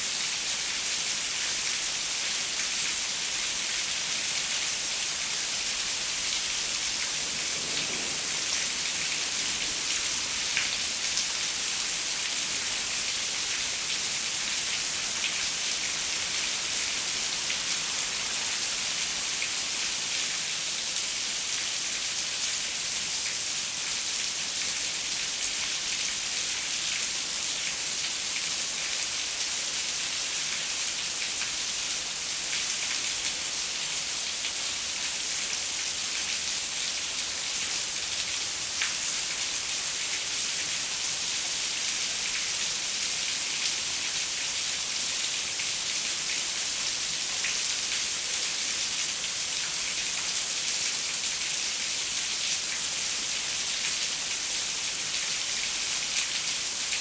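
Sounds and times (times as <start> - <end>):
rain on a window: 0.1 - 57.0.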